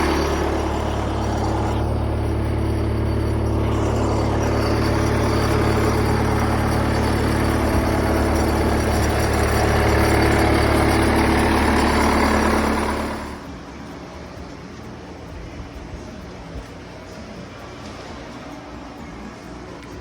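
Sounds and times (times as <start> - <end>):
motor running with hiss: 0.0 - 20.0.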